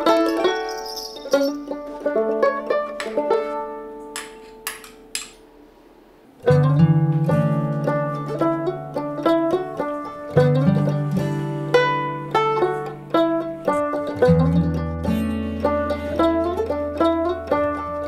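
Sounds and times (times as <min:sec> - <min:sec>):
plucked strings music: 0:00.0 - 0:05.4, 0:06.4 - 0:18.0.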